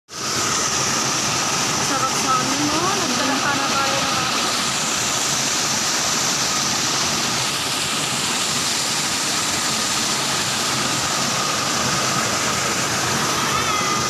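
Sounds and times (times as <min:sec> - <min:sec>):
waterfall rushing over rocks: 0:00.1 - 0:14.0.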